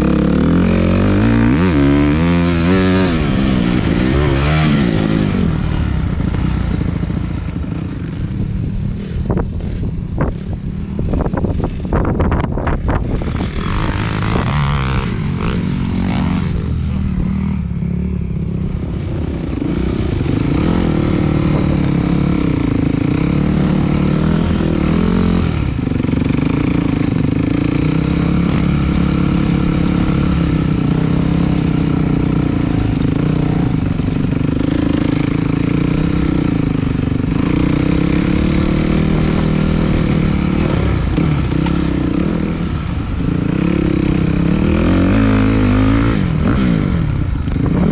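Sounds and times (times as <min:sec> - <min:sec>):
dirt bike engine revving: 0:00.0 - 0:07.1, 0:08.9 - 0:47.9.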